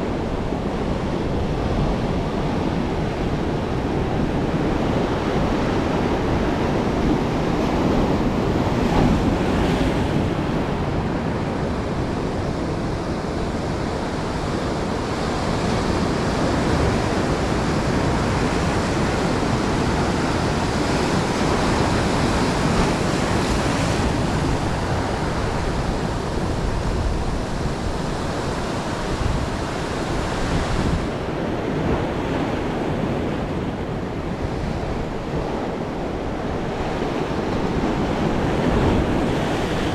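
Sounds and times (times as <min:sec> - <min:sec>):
ocean waves breaking on rocks: 0:00.7 - 0:39.9.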